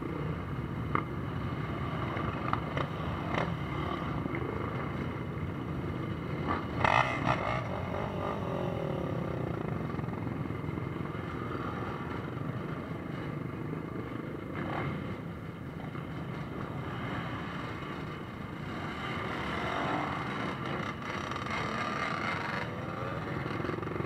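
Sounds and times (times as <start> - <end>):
motorbikes revving past: 0.0 - 13.3, 16.4 - 24.0
many motorbike engines running: 0.0 - 24.0.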